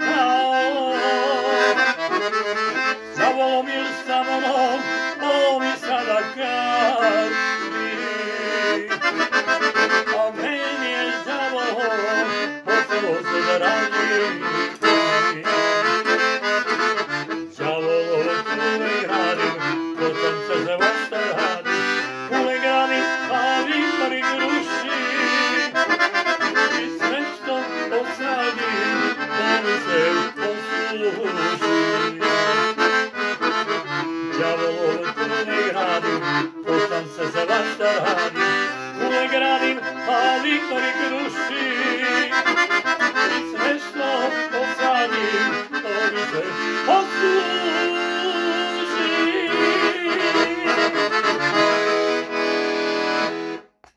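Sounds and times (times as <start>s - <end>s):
piano accordion playing tune: 0.0s - 53.9s.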